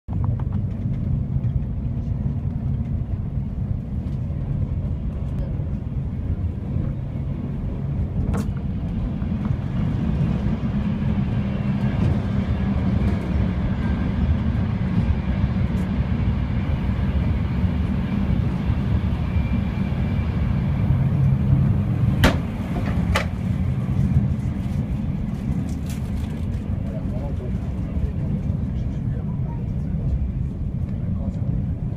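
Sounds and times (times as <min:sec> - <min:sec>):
train rumble and hum: 0:00.1 - 0:31.9.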